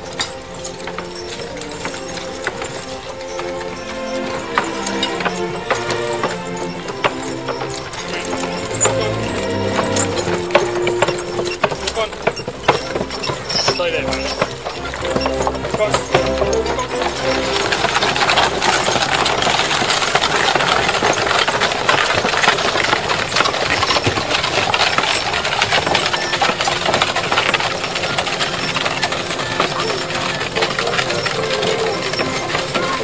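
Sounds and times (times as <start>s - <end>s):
cart wheels crunching on gravel: 0.0s - 33.0s
carts and harness clattering: 0.0s - 33.0s.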